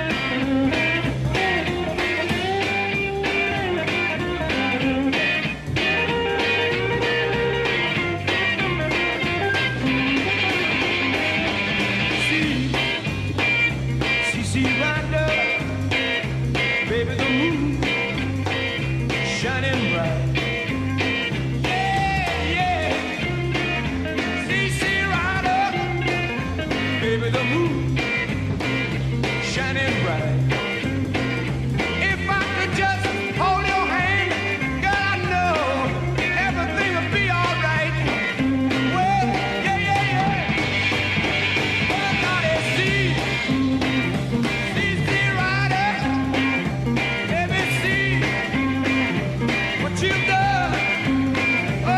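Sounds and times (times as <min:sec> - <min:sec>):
drums keeping steady beat: 0:00.0 - 0:51.9
sliding bending lead guitar: 0:00.0 - 0:51.9
walking bass line: 0:00.0 - 0:51.9.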